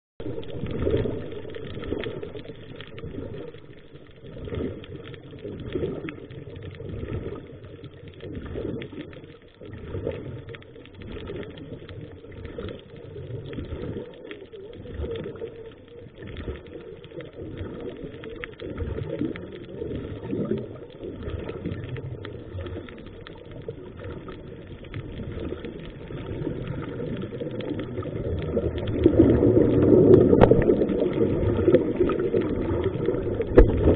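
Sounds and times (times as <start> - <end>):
muffled underwater bubbles rushing: 0.2 - 33.9
small crackling clicks: 0.2 - 33.9.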